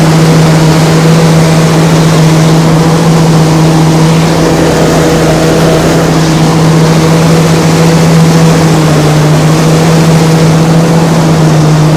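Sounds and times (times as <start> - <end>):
harvest machinery engine drone: 0.0 - 11.9.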